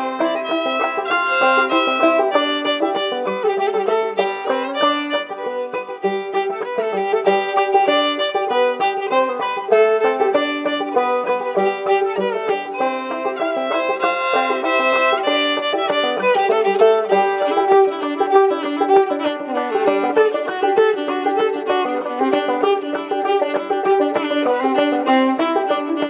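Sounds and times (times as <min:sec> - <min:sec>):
banjo frailed picking: 0:00.0 - 0:26.0
fiddle playing bowed melody: 0:00.0 - 0:26.0.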